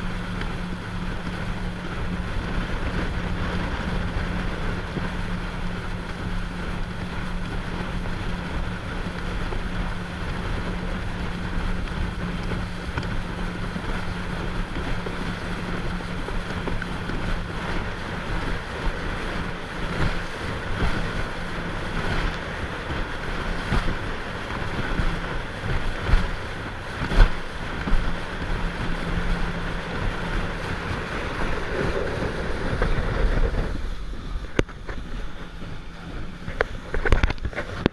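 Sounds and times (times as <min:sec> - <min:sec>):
motorboat engine: 0:00.0 - 0:37.9
water noise: 0:00.0 - 0:37.9
wind on microphone: 0:00.0 - 0:37.9.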